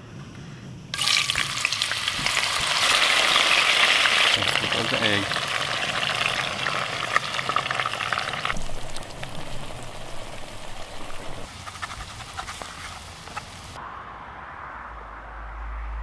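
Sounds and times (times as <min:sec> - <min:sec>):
eggs sizzling in hot pan: 0:01.0 - 0:13.8.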